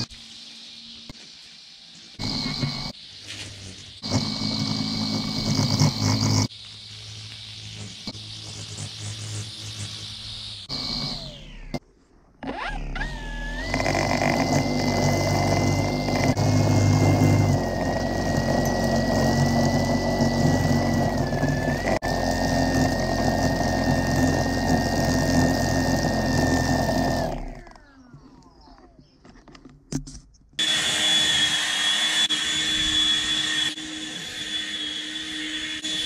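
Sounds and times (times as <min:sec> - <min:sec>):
string trimmer whining: 0:02.2 - 0:06.5, 0:07.1 - 0:11.8, 0:12.4 - 0:28.8, 0:30.6 - 0:36.0.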